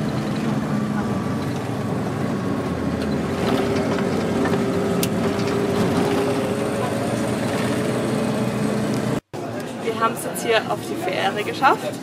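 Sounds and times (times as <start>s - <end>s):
bus engine droning: 0.0s - 12.0s
road noise: 0.0s - 12.0s.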